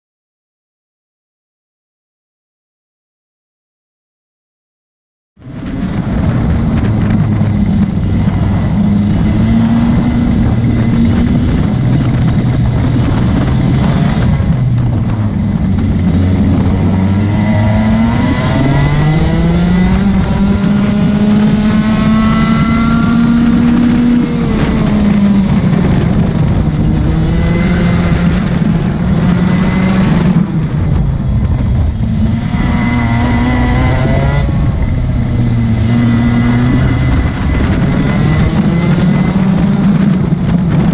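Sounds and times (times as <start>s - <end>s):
racing kart engine at full throttle: 5.4s - 40.9s.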